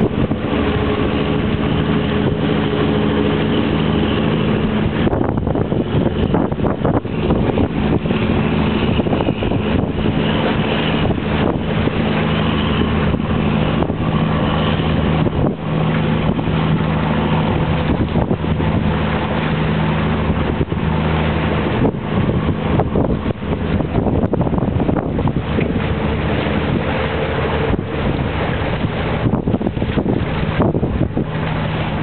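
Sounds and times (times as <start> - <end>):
engine drone: 0.0 - 32.0
wind buffeting microphone: 0.0 - 32.0.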